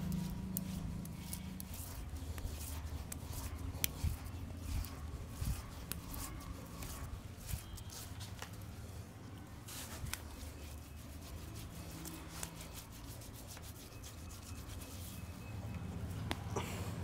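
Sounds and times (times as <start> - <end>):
hands rubbing lathered skin: 0.0 - 8.7, 9.6 - 15.4.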